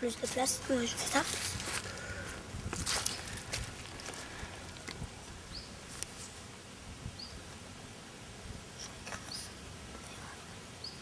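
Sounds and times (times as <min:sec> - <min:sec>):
quiet outdoor background noise: 0:00.0 - 0:11.0.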